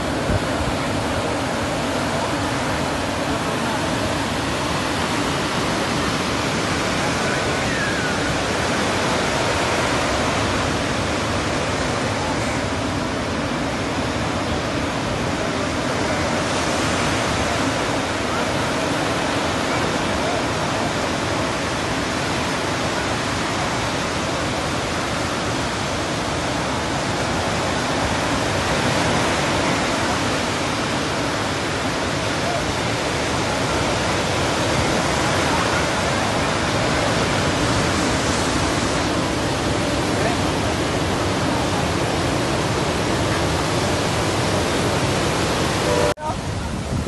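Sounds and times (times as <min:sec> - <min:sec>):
heavy surf breaking on shore: 0:00.0 - 0:47.0.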